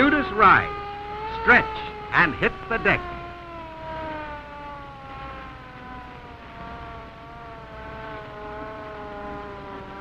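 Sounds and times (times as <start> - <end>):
mechanical siren wailing: 0.0 - 10.0.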